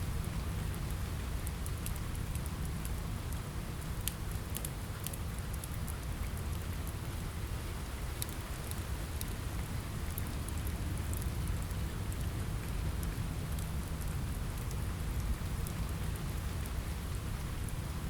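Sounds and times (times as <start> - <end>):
rain on a window: 0.0 - 18.0
log fire crackling: 0.2 - 18.0.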